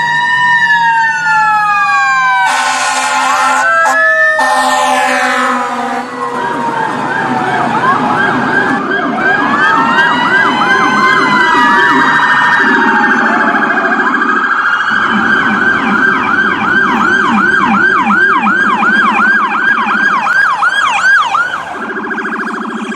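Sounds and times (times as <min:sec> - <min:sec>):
dual-tone electronic siren: 0:00.0 - 0:22.9.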